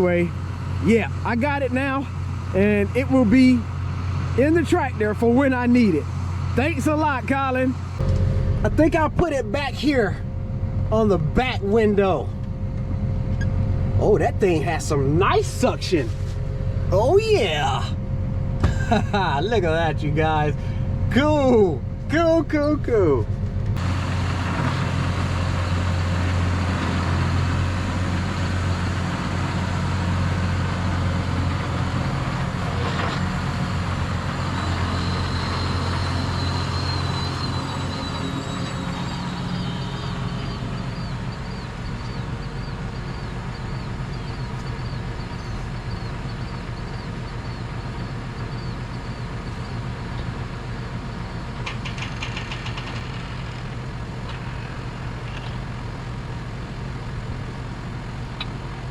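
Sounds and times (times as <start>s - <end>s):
tractor diesel engine droning: 0.0s - 58.9s.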